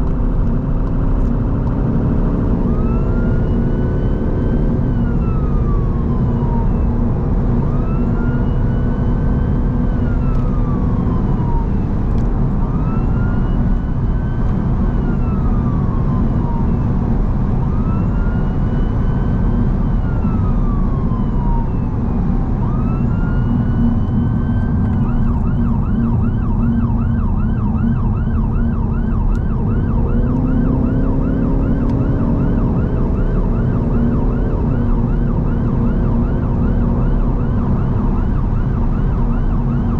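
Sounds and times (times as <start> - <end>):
road and engine noise: 0.0 - 39.9
ambulance siren wailing and yelping: 0.2 - 39.9.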